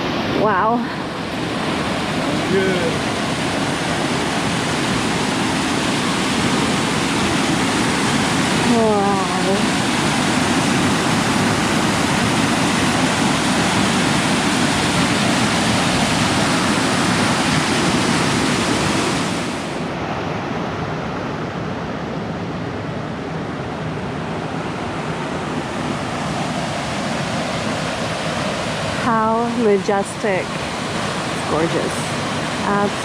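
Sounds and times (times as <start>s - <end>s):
waterfall rushing: 0.0s - 22.0s, 23.3s - 33.0s.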